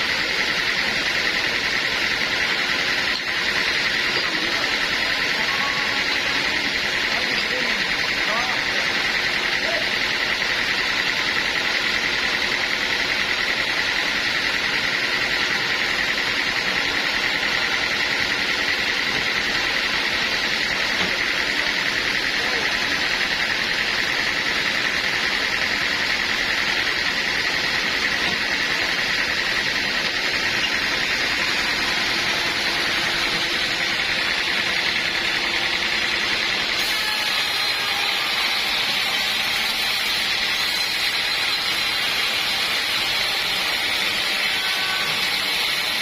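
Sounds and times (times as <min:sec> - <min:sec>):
sawmill machinery humming: 0:00.0 - 0:46.0.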